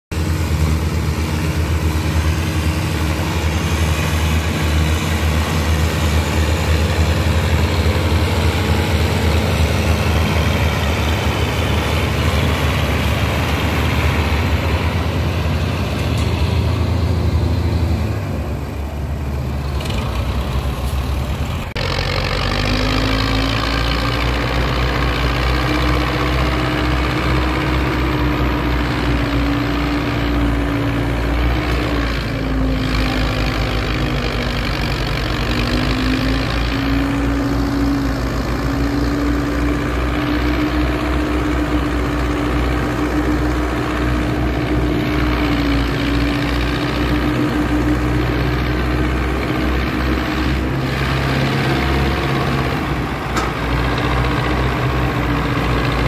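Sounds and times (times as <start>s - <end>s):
tractor diesel engine under load: 0.1s - 56.0s.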